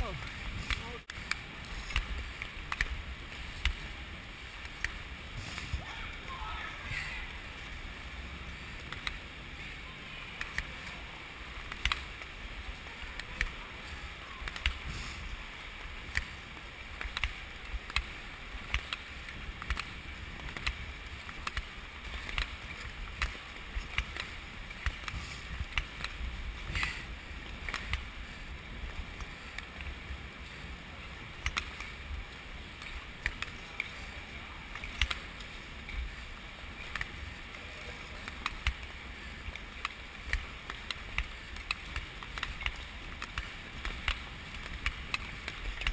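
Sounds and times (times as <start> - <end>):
skate clicks: 0.0 - 5.9, 6.6 - 45.9
continuous rushing hiss: 0.0 - 45.9.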